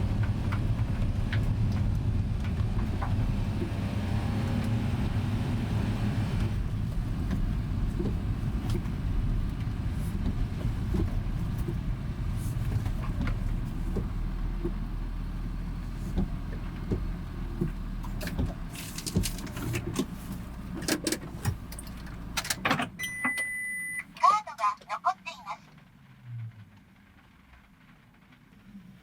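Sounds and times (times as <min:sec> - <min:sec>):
light truck engine rumbling: 0:00.0 - 0:24.2.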